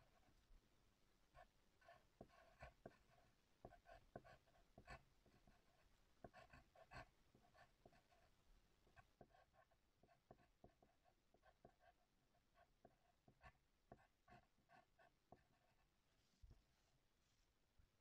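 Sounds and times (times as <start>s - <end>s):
pencil writing on paper: 1.4s - 15.9s.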